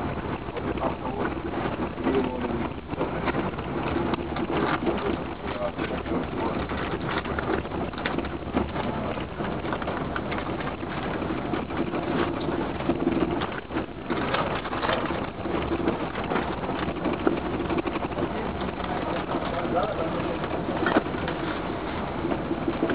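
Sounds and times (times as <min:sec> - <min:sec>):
dense crackling: 0:00.0 - 0:22.9
vehicle road and engine rumble: 0:00.0 - 0:22.9.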